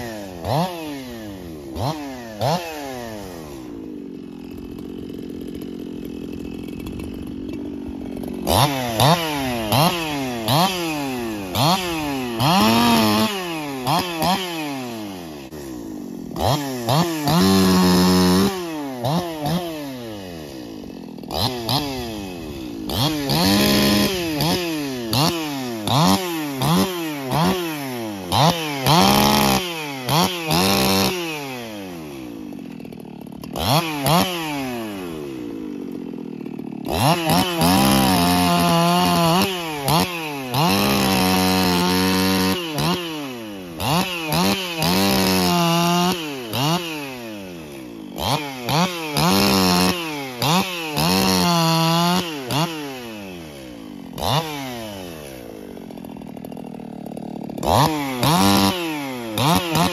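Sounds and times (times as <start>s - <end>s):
chainsaw revving and cutting: 0.0s - 59.9s.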